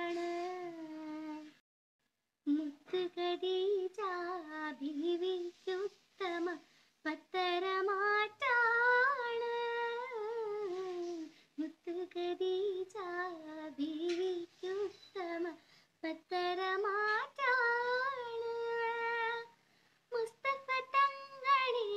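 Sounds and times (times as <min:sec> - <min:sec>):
girl singing unaccompanied: 0:00.0 - 0:01.6, 0:02.4 - 0:21.9.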